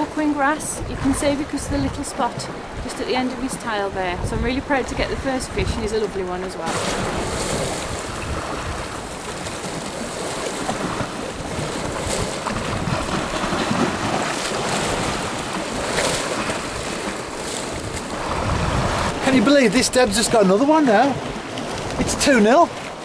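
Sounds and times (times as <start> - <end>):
surf washing against rocks: 0.0 - 23.0
wind buffeting microphone: 0.0 - 23.0.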